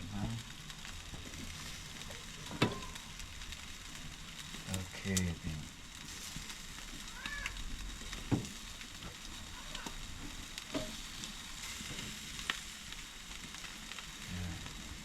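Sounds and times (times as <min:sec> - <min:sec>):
chicken sizzling on a grill: 0:00.0 - 0:15.0
fat popping and crackling: 0:00.0 - 0:15.0.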